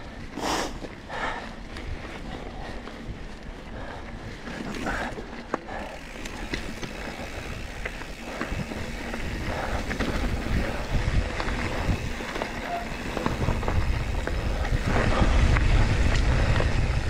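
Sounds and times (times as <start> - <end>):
bike clicks and rattles: 0.0 - 17.0
bike tyres rumbling on dirt: 0.0 - 17.0.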